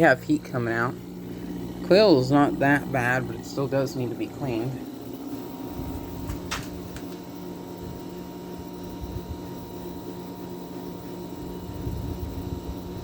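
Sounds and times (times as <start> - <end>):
air conditioner compressor hum: 0.0 - 13.0
fan air rushing: 0.0 - 13.0.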